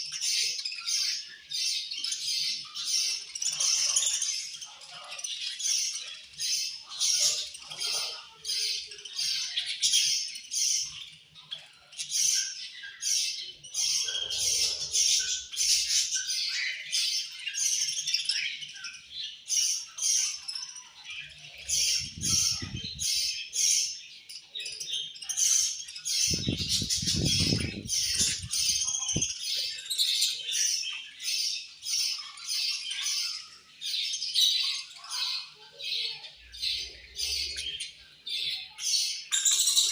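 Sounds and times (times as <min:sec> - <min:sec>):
budgies chirping and squawking: 0:00.0 - 0:39.9.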